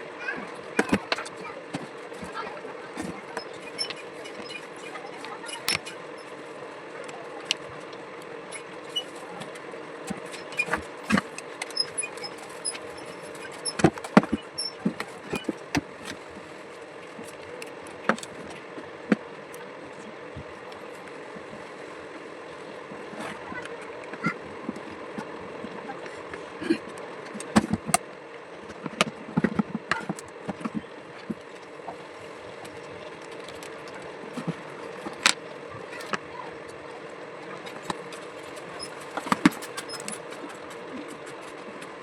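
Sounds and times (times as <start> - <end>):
low hum and hiss: 0.0 - 42.0.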